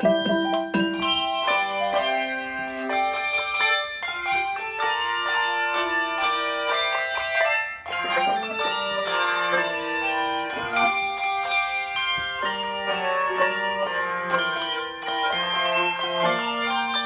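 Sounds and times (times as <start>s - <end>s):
handbell choir playing: 0.0s - 17.0s.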